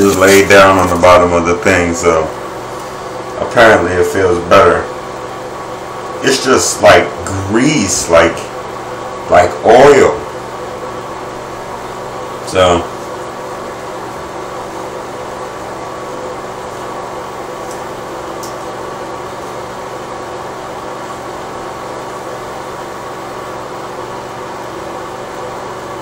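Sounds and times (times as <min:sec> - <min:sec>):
mechanical hum with hiss: 0:00.0 - 0:26.0.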